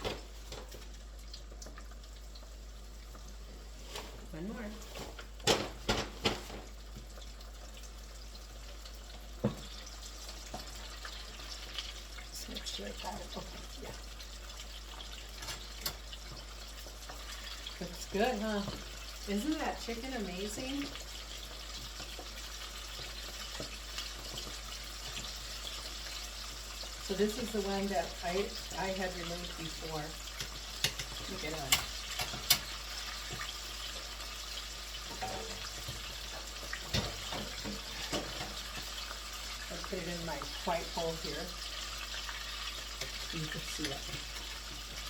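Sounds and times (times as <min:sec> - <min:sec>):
chicken sizzling in oil: 0:00.0 - 0:45.0.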